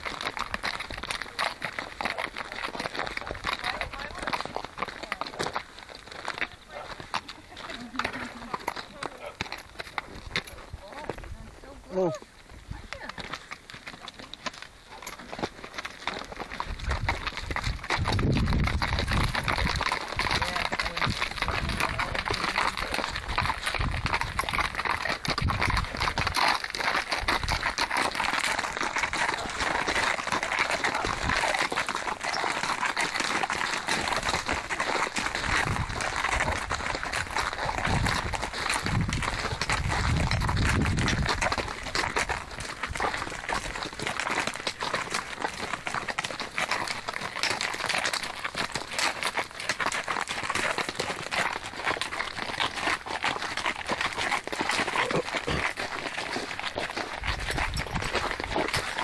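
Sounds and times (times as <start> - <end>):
horse hooves clip-clopping: 0.0 - 59.0.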